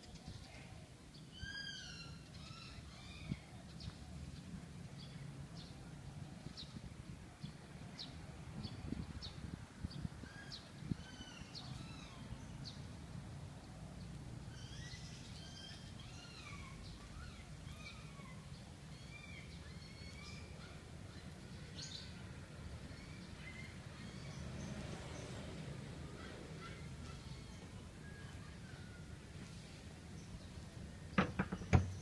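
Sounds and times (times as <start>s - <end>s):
small birds chirping: 0.0s - 25.4s, 26.1s - 32.0s.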